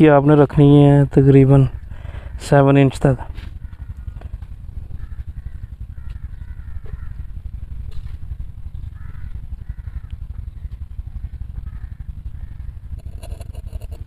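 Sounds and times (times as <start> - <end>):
fluttering low rumble: 0.0 - 14.0.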